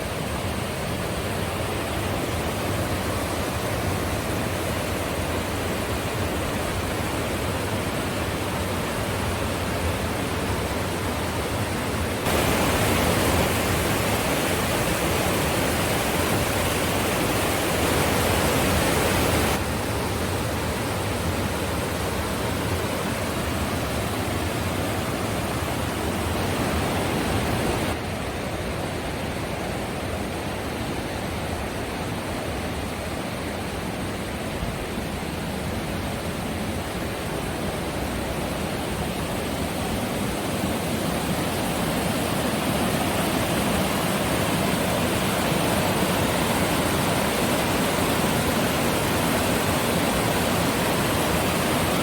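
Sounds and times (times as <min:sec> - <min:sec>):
rushing river water: 0:00.0 - 0:52.0.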